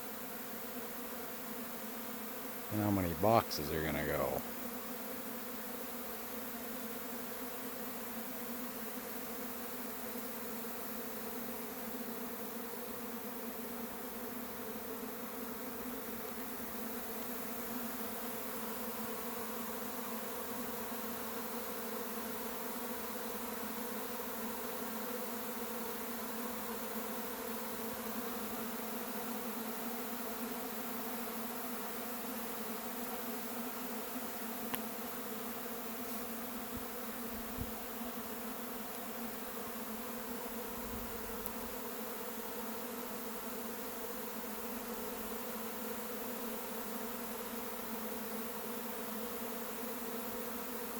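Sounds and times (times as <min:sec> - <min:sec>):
bee swarm buzzing: 0:00.0 - 0:50.9.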